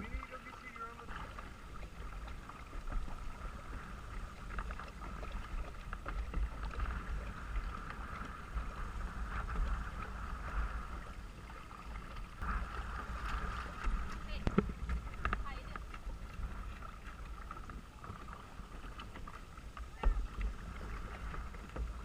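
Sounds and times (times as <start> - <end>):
low wind rumble: 0.0 - 22.0
paddle splashes and knocks: 0.0 - 22.0.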